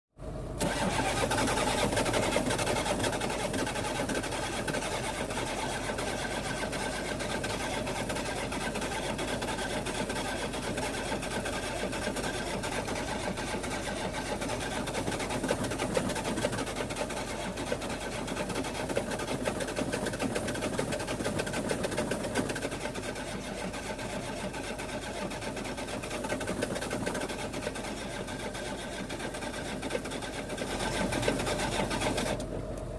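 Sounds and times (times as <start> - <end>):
engine turning over: 0.3 - 32.9.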